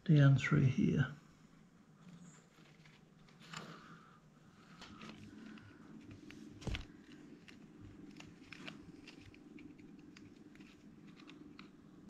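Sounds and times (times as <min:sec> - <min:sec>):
fabric blind crinkling: 0:02.0 - 0:12.0.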